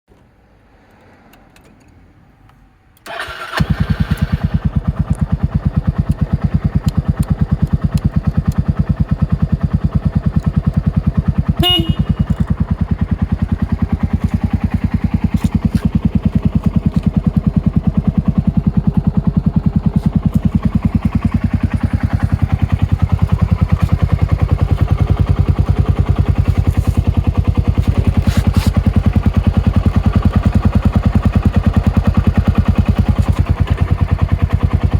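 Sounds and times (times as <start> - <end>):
scooter engine starting and idling: 3.0 - 34.9.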